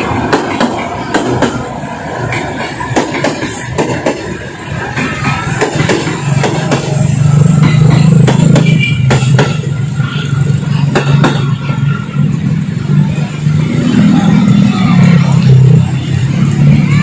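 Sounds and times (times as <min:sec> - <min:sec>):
wheels clacking on rail joints: 0:00.0 - 0:16.8
electric train humming: 0:00.0 - 0:17.0.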